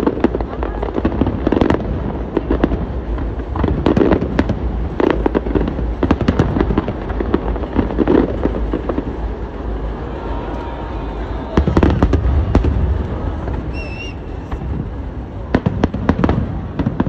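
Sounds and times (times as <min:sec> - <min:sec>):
fireworks bangs and crackles: 0:00.0 - 0:17.0
low rumble: 0:01.3 - 0:17.0.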